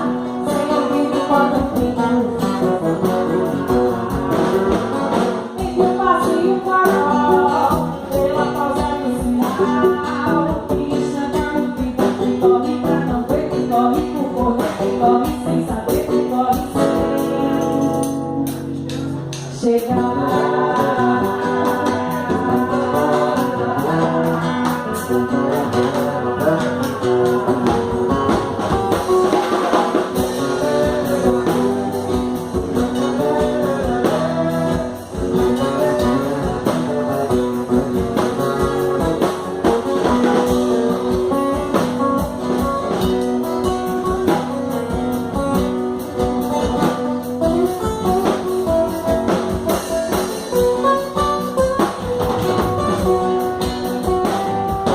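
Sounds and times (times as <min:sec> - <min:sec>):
person singing: 0:00.0 - 0:18.2, 0:18.8 - 0:54.9
live band music with guitar: 0:00.0 - 0:54.9.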